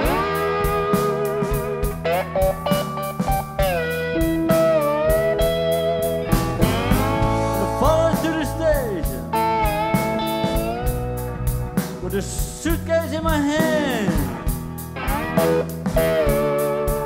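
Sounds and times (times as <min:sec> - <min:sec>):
blues band playing: 0:00.0 - 0:17.0
drums: 0:00.0 - 0:17.0
electric guitar lead: 0:00.0 - 0:17.0.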